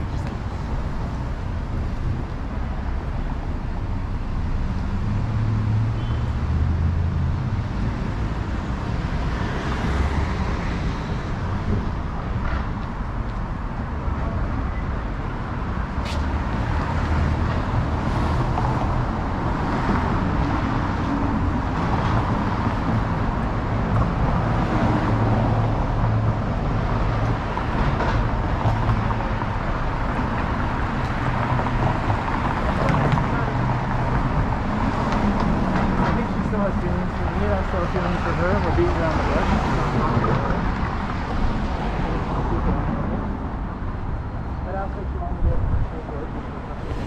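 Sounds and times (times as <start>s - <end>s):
vehicles passing: 0.0s - 47.0s.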